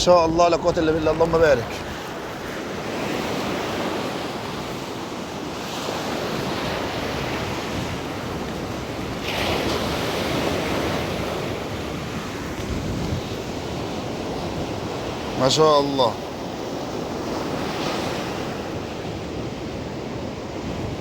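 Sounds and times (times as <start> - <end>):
heavy surf breaking: 0.0 - 21.0
wind buffeting microphone: 0.0 - 21.0.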